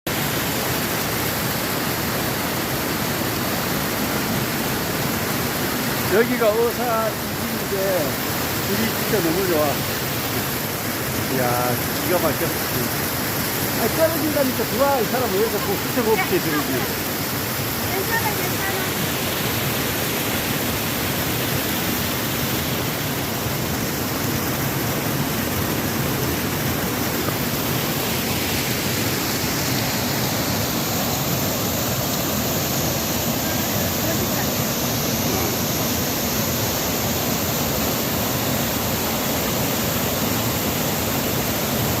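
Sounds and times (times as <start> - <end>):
stream rushing over rocks: 0.1 - 42.0.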